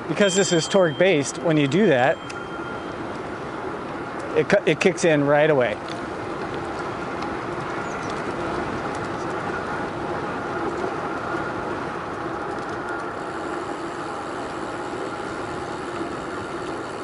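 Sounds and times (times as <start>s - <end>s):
bike tyre hum on pavement: 0.0s - 17.0s.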